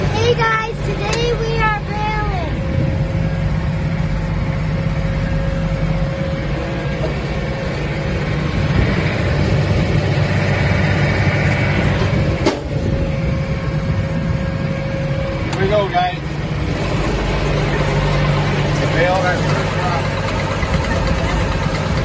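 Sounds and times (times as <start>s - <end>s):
thin steady whine: 0.0s - 20.3s
tractor engine drone: 0.0s - 22.0s.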